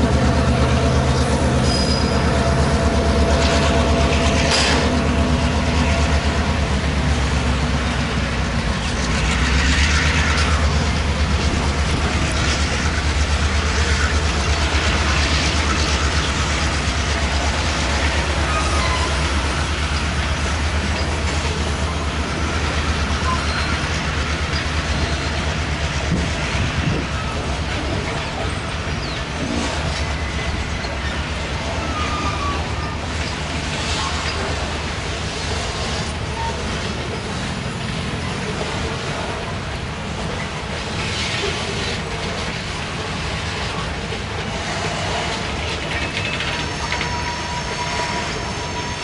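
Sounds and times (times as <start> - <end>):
train wheels running on rails: 0.0 - 49.0.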